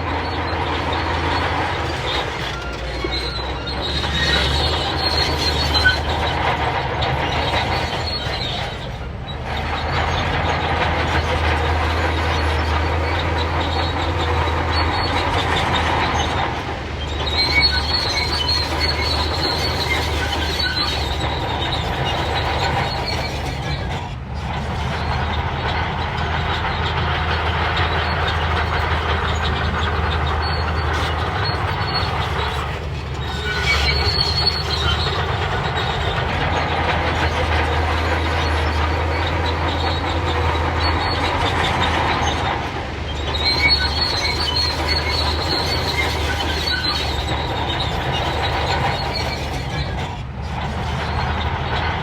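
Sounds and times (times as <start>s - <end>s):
diesel engine hum: 0.0s - 52.0s
steel tracks squealing and clattering: 0.0s - 52.0s.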